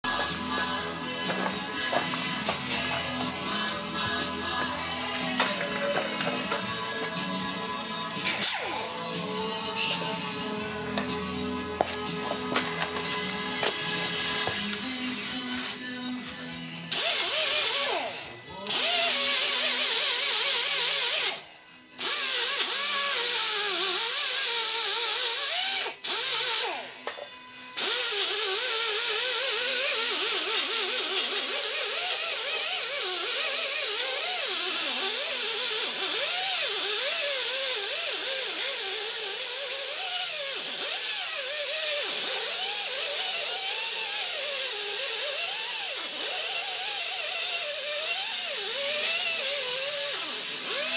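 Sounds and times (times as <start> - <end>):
die grinder grinding metal: 0.0 - 50.9.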